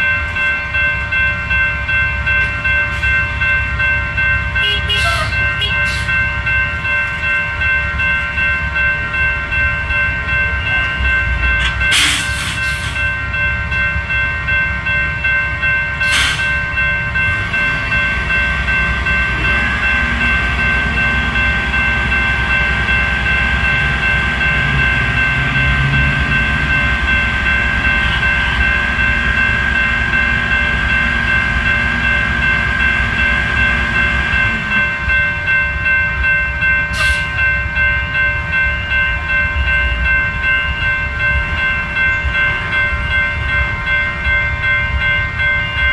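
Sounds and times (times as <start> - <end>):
crossing warning bell ringing: 0.0 - 45.9.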